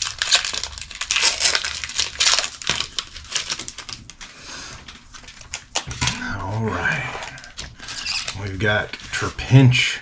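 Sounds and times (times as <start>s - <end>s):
foil wrapper tearing and crinkling: 0.0s - 4.3s, 4.9s - 6.0s, 6.6s - 9.6s.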